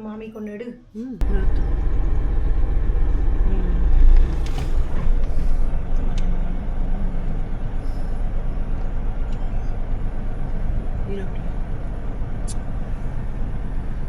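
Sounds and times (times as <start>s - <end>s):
road noise: 1.2s - 14.0s
vehicle engine rumble: 1.2s - 14.0s.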